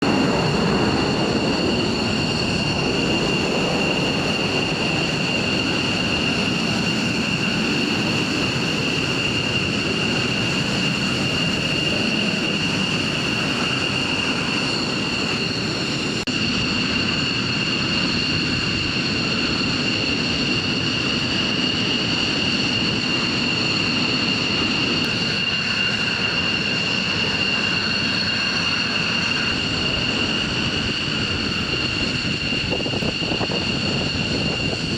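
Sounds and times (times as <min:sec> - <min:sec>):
jet engine whining: 0:00.0 - 0:34.9.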